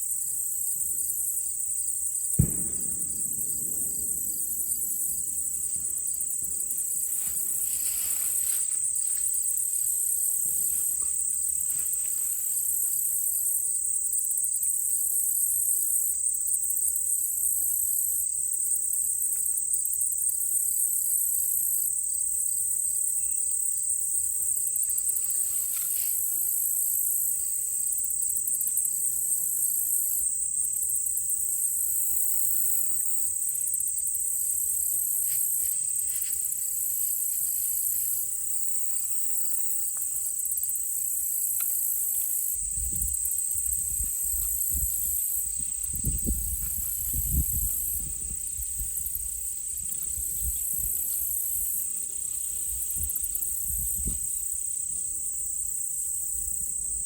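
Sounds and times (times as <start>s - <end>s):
crickets trilling drone: 0.0s - 57.0s
faint repeated insect chirp: 0.0s - 57.0s.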